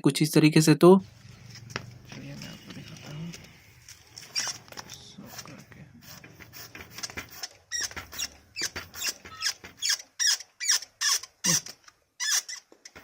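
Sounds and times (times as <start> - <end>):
bicycle suspension squeaking: 1.2 - 13.0.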